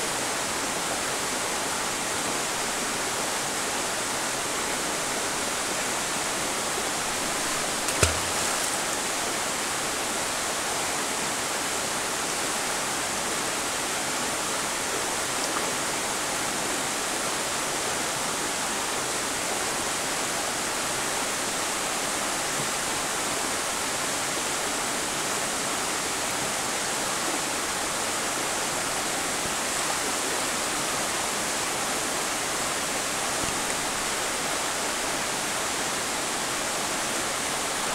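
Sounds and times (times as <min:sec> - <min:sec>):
stream rushing over stones: 0:00.1 - 0:37.9.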